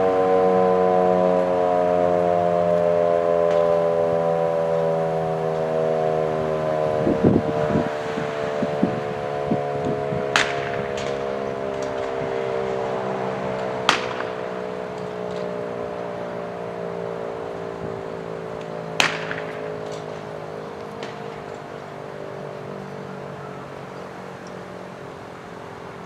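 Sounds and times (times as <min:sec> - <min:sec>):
siren winding down: 0:00.0 - 0:26.0.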